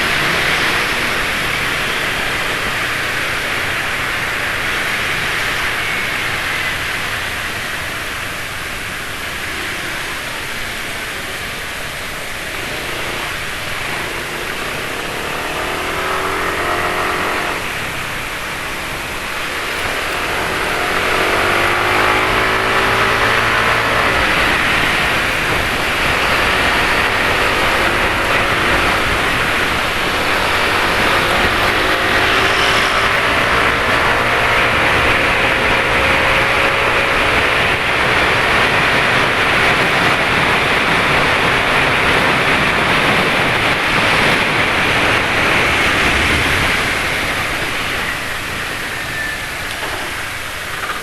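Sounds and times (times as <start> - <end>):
motorbike engines: 0.0 - 51.0
wind and road noise: 0.0 - 51.0.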